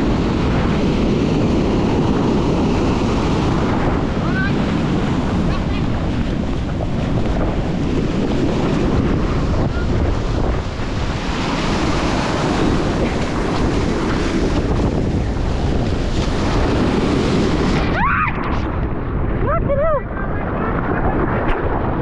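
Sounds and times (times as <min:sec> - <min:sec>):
surf washing up beach: 0:00.0 - 0:22.0
wind buffeting microphone: 0:00.0 - 0:22.0.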